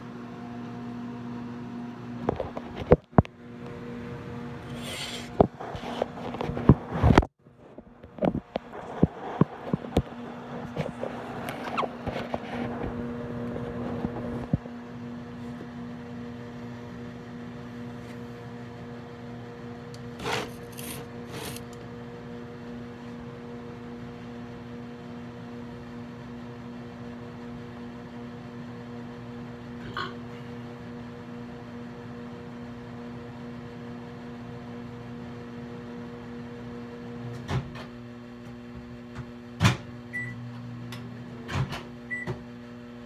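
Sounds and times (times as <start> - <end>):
microwave oven humming: 0.0 - 43.0.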